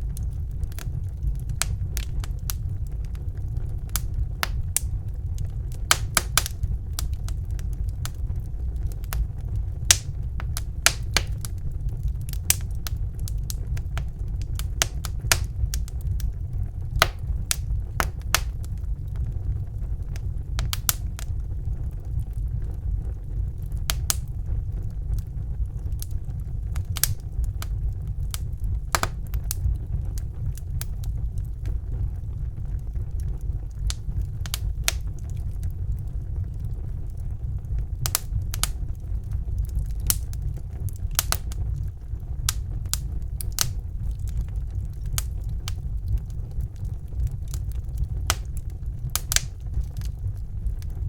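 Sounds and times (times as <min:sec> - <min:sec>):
steady low rumble: 0:00.0 - 0:51.0
wood fire crackling: 0:00.0 - 0:51.0.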